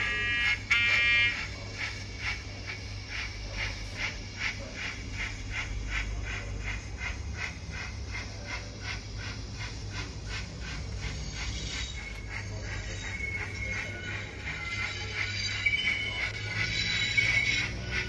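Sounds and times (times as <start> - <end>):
model steam locomotive chuffs: 0.0 - 18.0.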